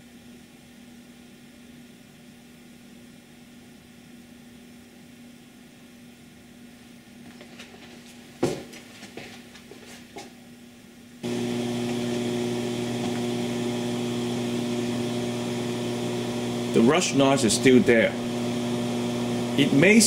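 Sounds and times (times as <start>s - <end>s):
mains hum with overtones: 0.0s - 20.0s.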